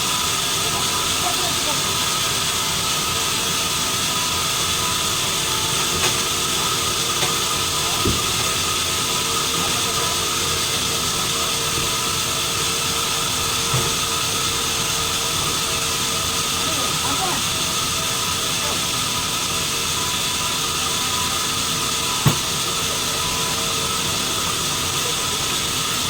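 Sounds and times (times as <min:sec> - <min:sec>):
sawmill machinery hiss and whine: 0:00.0 - 0:26.0.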